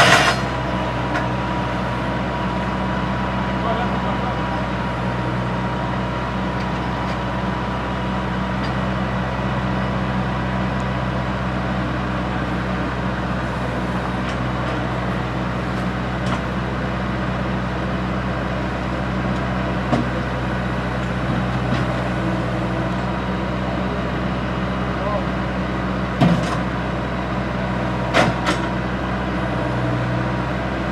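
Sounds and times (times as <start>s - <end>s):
heavy equipment engine running: 0.0s - 30.9s.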